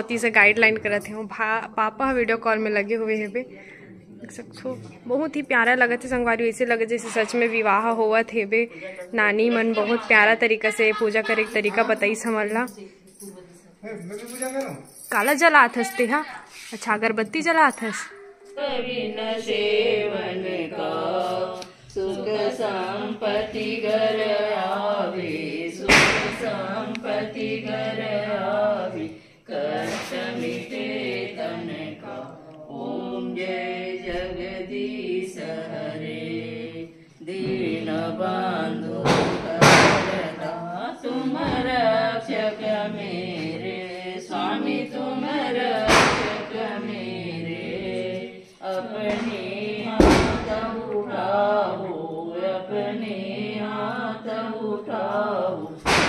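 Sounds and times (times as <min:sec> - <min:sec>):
voices singing devotional song: 0:00.0 - 0:56.0.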